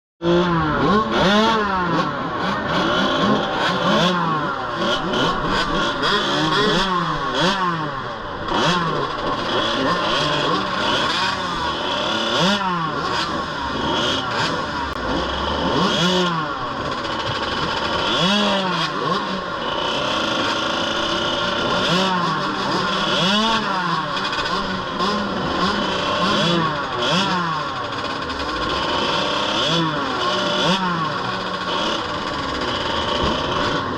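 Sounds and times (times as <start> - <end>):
dirt bike engines revving: 0.2 - 33.9.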